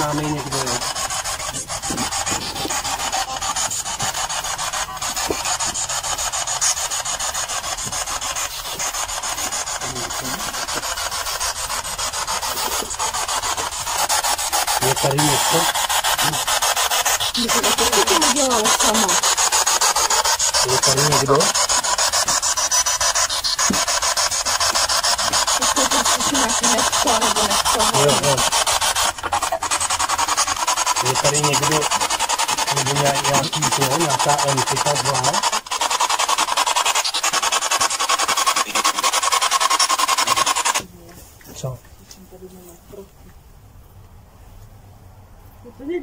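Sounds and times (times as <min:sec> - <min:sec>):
pulsing radio static: 0:00.0 - 0:40.8.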